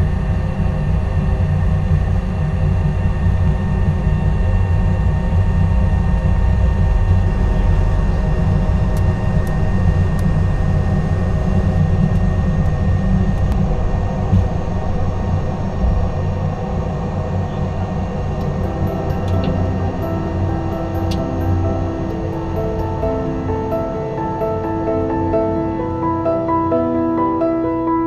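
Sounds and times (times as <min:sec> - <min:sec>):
wheels rumbling on runway: 0:00.0 - 0:24.1
jet engines whining: 0:00.0 - 0:28.0.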